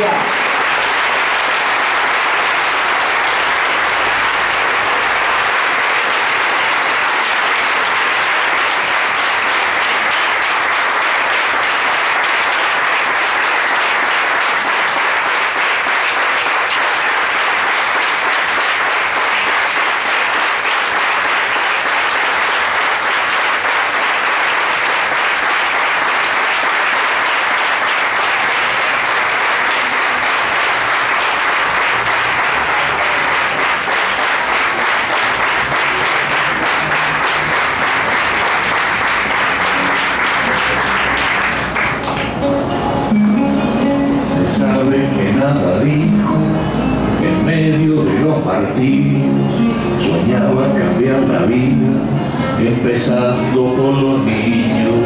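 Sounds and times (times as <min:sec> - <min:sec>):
crowd applauding: 0:00.0 - 0:51.7, 0:52.8 - 0:55.0.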